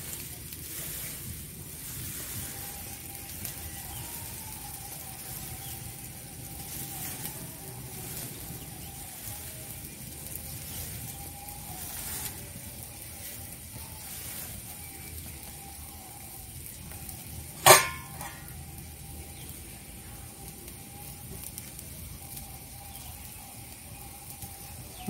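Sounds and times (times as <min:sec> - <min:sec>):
fritters sizzling in oil: 0:00.0 - 0:25.0
oil crackles and pops: 0:00.0 - 0:25.0.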